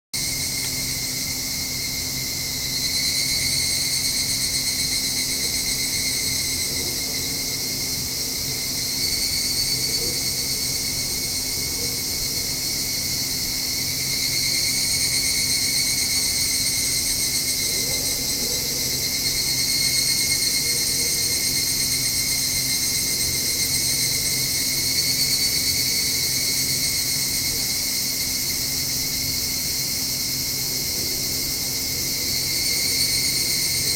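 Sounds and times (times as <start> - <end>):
cicadas chorus: 0.2 - 33.9.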